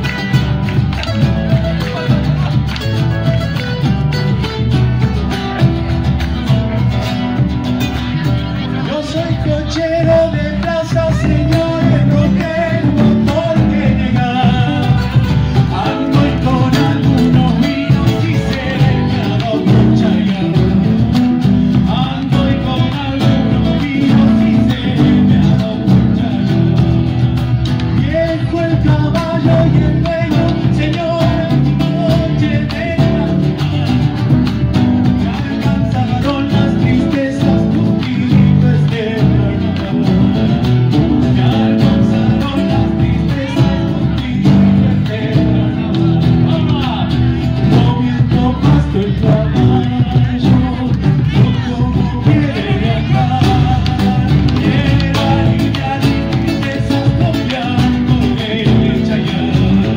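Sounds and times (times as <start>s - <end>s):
bass drum beats: 0.0s - 59.9s
electric guitar: 0.0s - 59.9s
man singing lead: 0.0s - 59.9s
strummed acoustic guitar: 0.0s - 59.9s.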